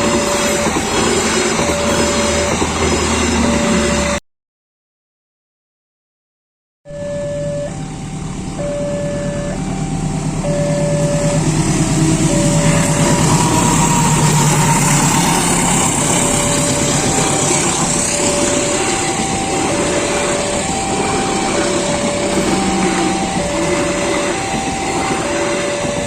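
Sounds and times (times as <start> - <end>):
level crossing alarm: 0.0 - 4.2, 6.9 - 26.0
train passing: 0.0 - 4.2, 7.2 - 26.0.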